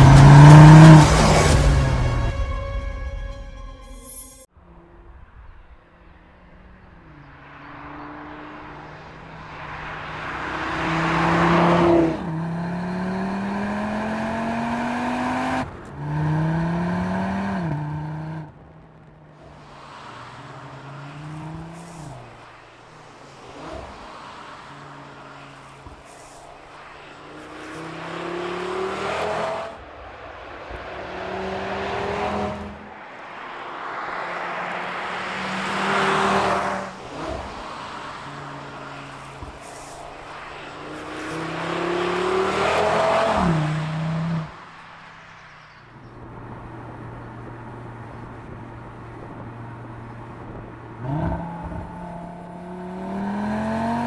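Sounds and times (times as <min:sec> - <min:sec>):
car engine and exhaust accelerating: 0:00.0 - 0:02.8, 0:04.5 - 0:54.0.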